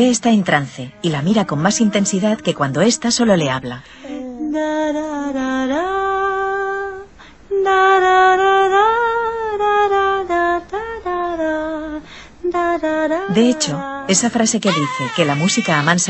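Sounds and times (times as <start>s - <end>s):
woman singing lullaby: 0.0s - 16.0s.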